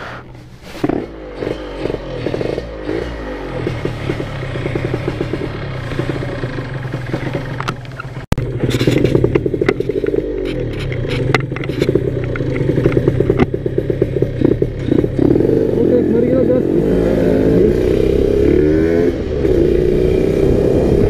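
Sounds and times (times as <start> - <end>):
two-stroke motorcycle engine: 0.8 - 21.0.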